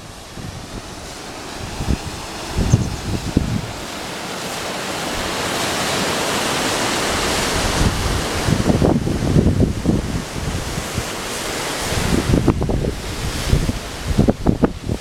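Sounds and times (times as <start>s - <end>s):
wind buffeting microphone: 0.0s - 4.2s, 7.0s - 15.0s
waterfall rushing: 0.0s - 15.0s.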